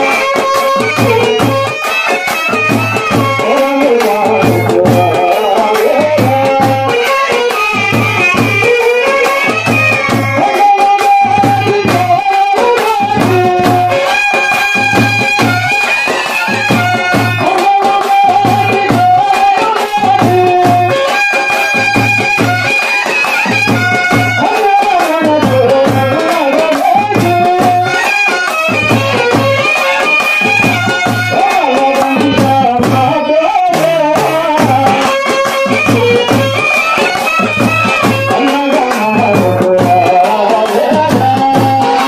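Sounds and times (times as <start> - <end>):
barrel drum beat: 0.0 - 42.0
clicking and rattling percussion: 0.0 - 42.0.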